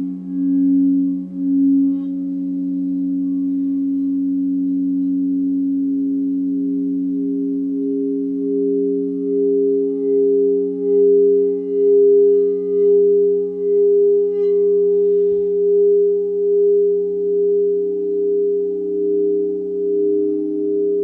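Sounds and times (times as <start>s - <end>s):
singing bowls droning: 0.0s - 21.0s.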